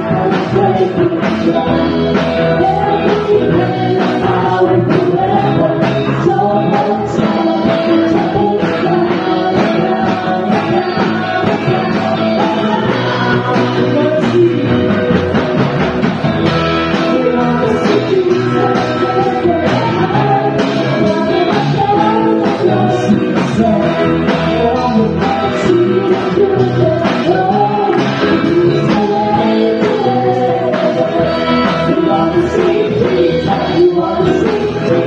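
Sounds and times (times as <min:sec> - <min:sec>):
drum kit: 0:00.0 - 0:35.0
electric guitar: 0:00.0 - 0:35.0
people singing into microphones: 0:00.0 - 0:35.0.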